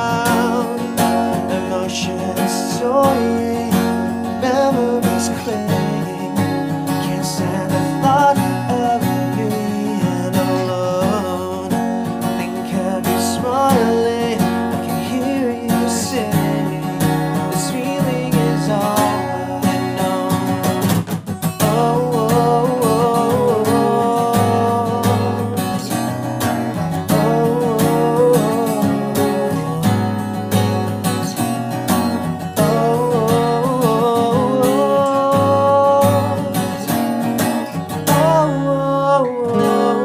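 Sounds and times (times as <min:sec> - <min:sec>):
man singing: 0:00.0 - 0:40.0
strummed acoustic guitar: 0:00.0 - 0:40.0.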